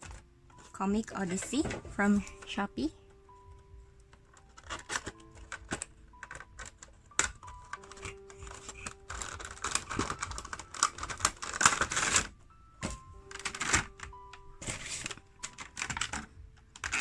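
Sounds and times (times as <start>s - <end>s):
packaging clicks and crinkling: 0.0s - 17.0s
packaging rustle: 0.0s - 17.0s
soft piano music: 0.0s - 17.0s.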